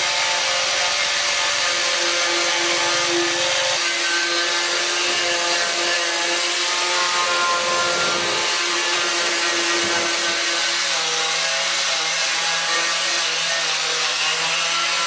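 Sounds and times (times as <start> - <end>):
power tool whining: 0.0 - 15.0.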